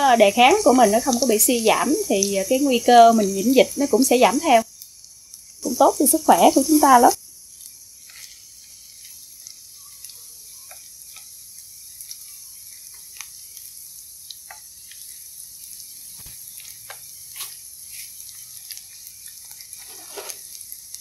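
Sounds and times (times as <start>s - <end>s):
fish frying in oil: 0.0s - 21.0s
spitting oil pops and crackles: 4.0s - 21.0s.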